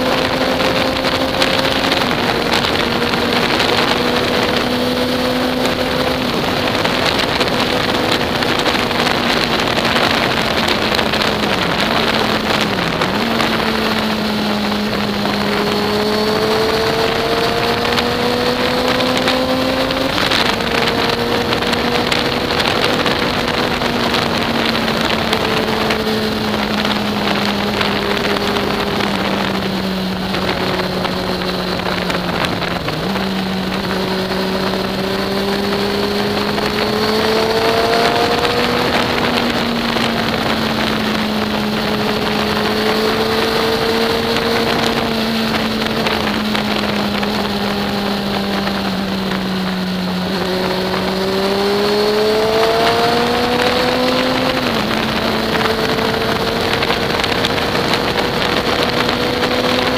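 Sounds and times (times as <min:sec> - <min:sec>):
motorcycle engine pulling steadily: 0:00.0 - 0:59.9
wind rush on microphone: 0:00.0 - 0:59.9.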